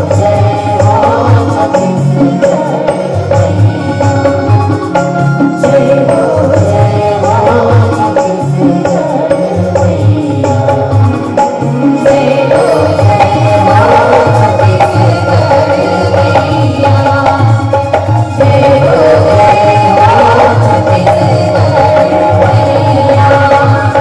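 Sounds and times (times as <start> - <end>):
sustained instrumental melody: 0.0 - 19.7
hand drums steady rhythm: 0.0 - 24.0.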